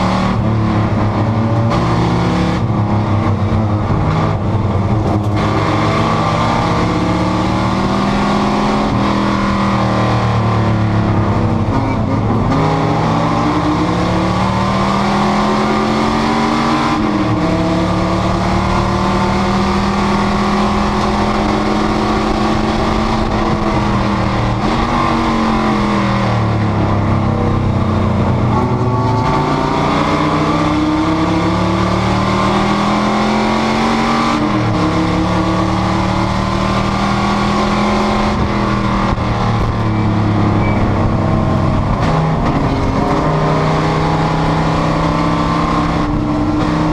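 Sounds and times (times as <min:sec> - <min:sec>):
race car engine changing gear: 0:00.0 - 0:46.9.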